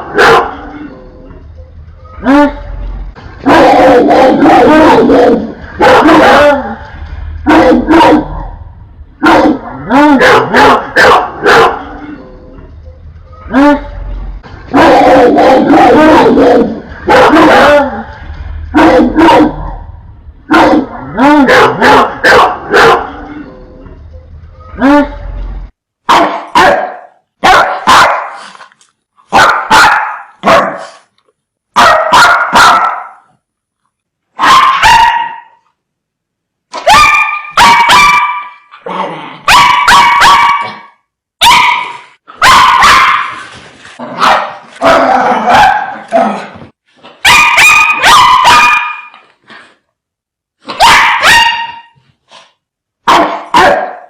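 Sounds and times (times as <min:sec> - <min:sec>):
dogs barking fiercely: 0:00.0 - 0:01.0, 0:02.2 - 0:12.2, 0:13.4 - 0:23.5, 0:24.8 - 0:28.6, 0:29.3 - 0:31.1, 0:31.8 - 0:33.3, 0:34.4 - 0:35.6, 0:36.7 - 0:49.2, 0:50.6 - 0:52.0, 0:53.0 - 0:54.0.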